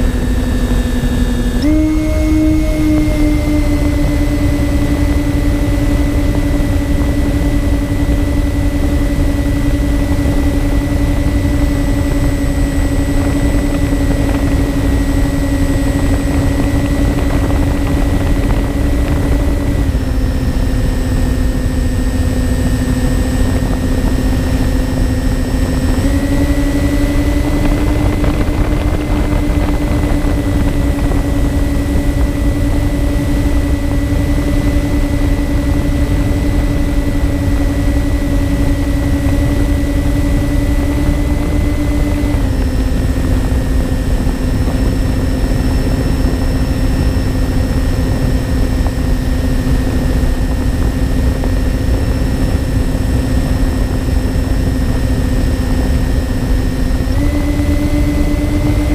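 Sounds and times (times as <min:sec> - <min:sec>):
electric motors humming: 0:00.0 - 0:58.9
rumbling wind noise: 0:00.0 - 0:58.9.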